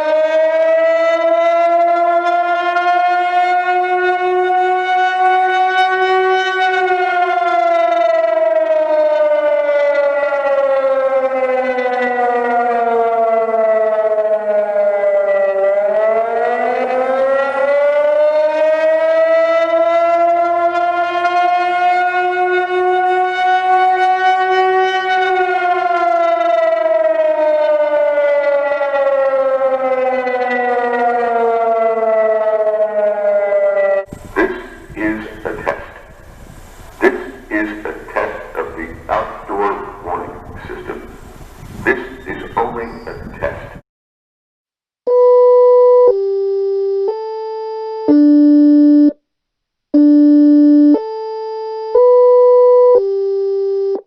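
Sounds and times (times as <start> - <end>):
electronic siren wail: 0.0 - 43.5, 45.1 - 49.2, 50.0 - 54.0.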